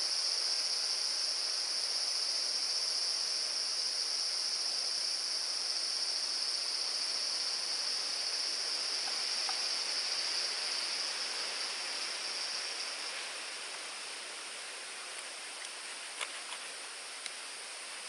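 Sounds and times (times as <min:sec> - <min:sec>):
background hiss: 0:00.0 - 0:18.0
insects buzzing in chorus: 0:00.0 - 0:18.0.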